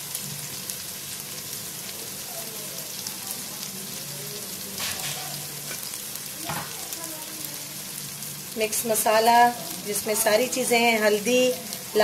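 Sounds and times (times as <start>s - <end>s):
masala sizzling in hot oil: 0.0s - 12.0s.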